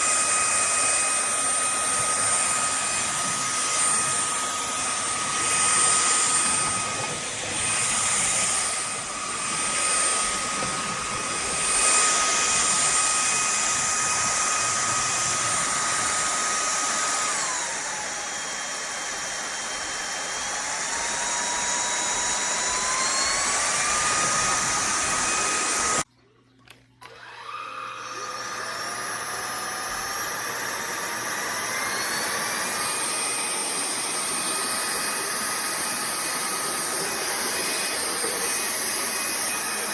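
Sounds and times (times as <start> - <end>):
stick vacuum running: 0.0 - 26.1, 26.7 - 39.9.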